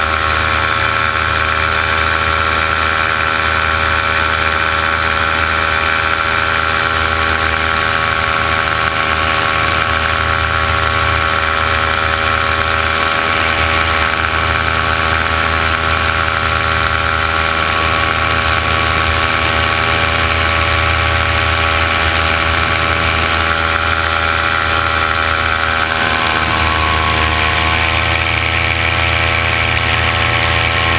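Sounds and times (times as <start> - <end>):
drone propellers humming: 0.0 - 30.9.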